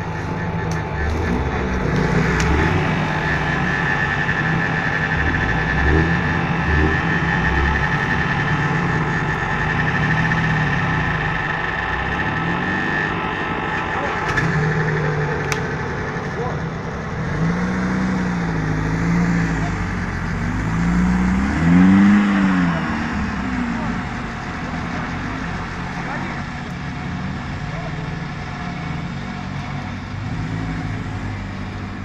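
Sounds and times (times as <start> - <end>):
car engine under load: 0.0 - 32.0
steady high whine: 0.0 - 32.0.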